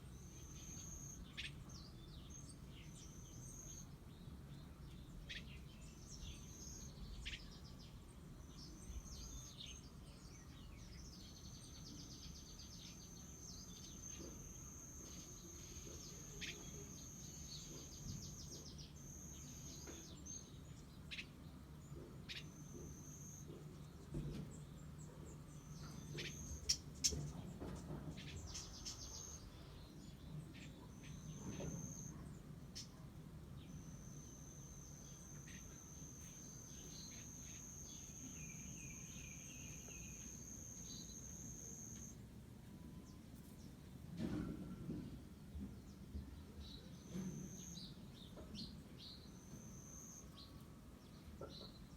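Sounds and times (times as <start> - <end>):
faint bird chirps: 0.0 - 4.0, 5.1 - 21.4, 25.0 - 27.4, 28.2 - 43.8, 45.9 - 51.9.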